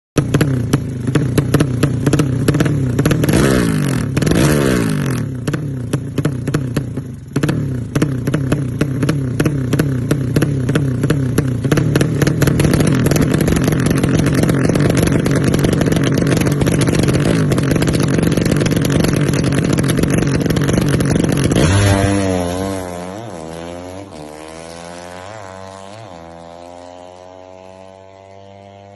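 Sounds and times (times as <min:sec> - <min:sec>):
motorcycle engine revving: 0:00.2 - 0:28.9.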